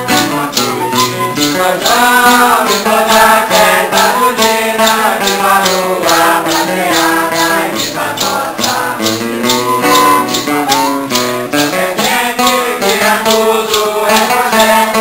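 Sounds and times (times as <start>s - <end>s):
group singing a hymn: 0.0s - 11.0s, 11.6s - 15.0s
acoustic guitar: 0.0s - 15.0s
maracas shaking: 0.0s - 15.0s.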